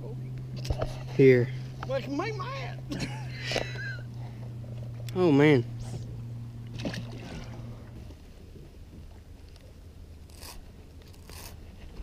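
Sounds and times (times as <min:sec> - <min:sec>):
faint wind: 0:00.0 - 0:12.0
low electric motor hum: 0:00.0 - 0:12.0
water noise: 0:00.0 - 0:12.0.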